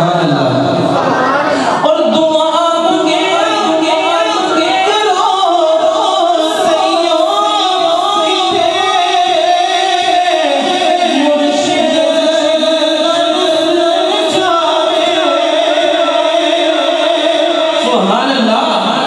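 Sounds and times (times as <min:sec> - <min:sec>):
man singing into a microphone: 0:00.0 - 0:00.8, 0:01.6 - 0:19.0.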